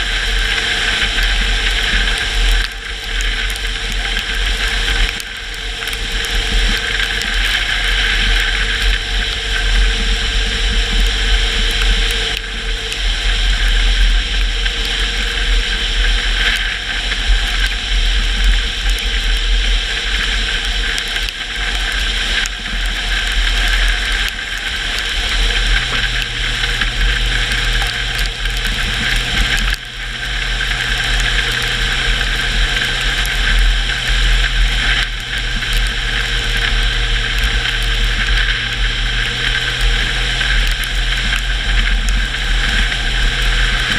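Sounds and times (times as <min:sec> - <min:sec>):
car engine drone: 0:00.0 - 0:43.9.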